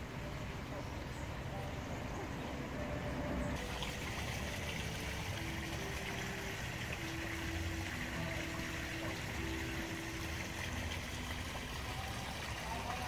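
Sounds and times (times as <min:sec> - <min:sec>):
faint low melody: 0:00.0 - 0:13.0
trickling water: 0:00.0 - 0:13.0.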